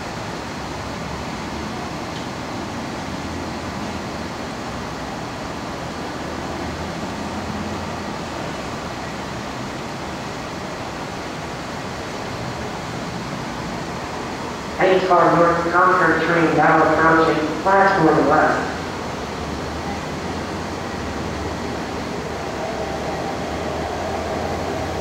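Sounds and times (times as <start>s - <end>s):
steady ambient rush: 0.0s - 25.0s.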